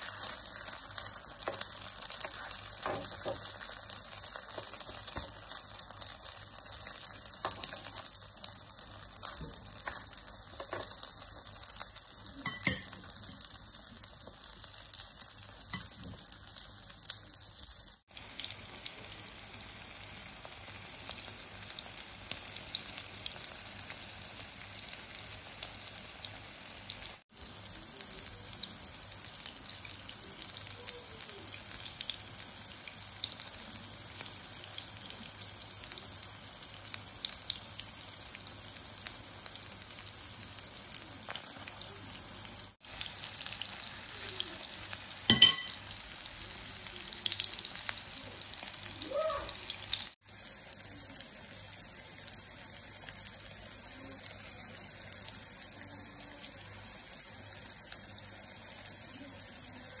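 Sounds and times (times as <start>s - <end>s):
patties sizzling in oil: 0.0s - 60.0s.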